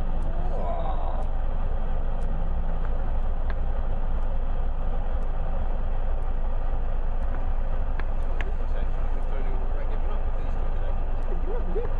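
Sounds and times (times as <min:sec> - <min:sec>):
distant vehicle engine pulling uphill: 0:00.0 - 0:11.9
steady low rumble: 0:00.0 - 0:11.9.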